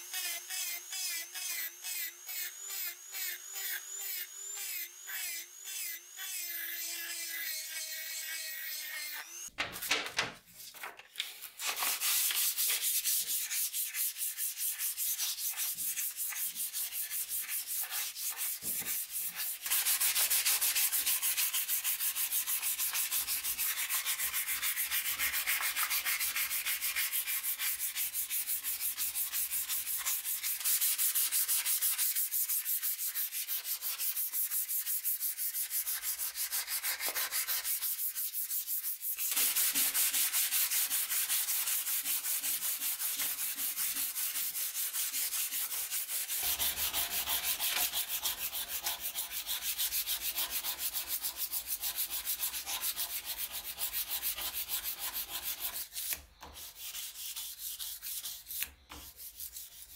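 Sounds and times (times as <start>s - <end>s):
sandpaper rubbing on steel: 11.5s - 59.9s.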